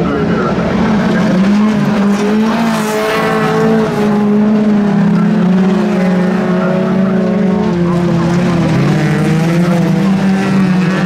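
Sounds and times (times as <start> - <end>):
race car engines at high revs: 0.0 - 11.0.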